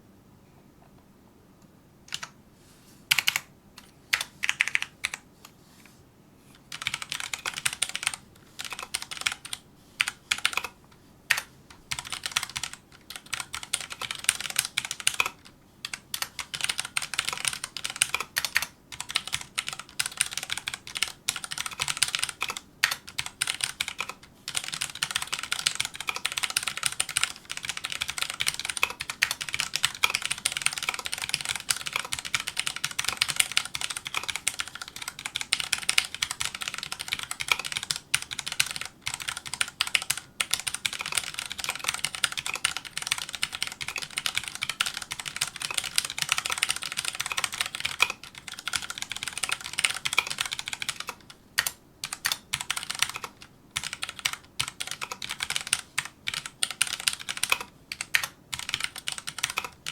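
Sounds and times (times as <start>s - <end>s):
mechanical keyboard typing: 2.1s - 2.4s, 3.1s - 3.5s, 4.1s - 5.2s, 6.7s - 59.9s.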